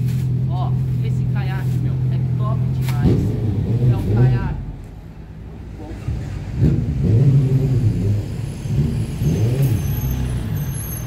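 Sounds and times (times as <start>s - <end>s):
passing vehicle engine: 0.0s - 11.0s.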